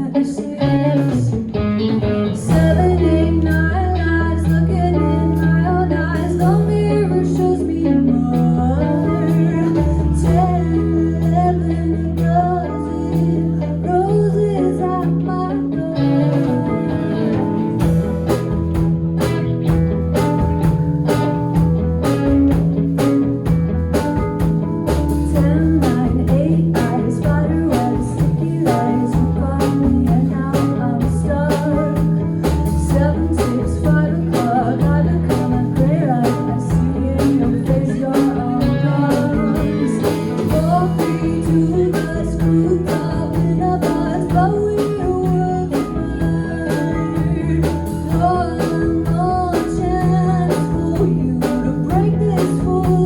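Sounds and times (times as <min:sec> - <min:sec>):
electric guitar lead with bends: 0:00.0 - 0:53.0
rock band playing: 0:00.0 - 0:53.0.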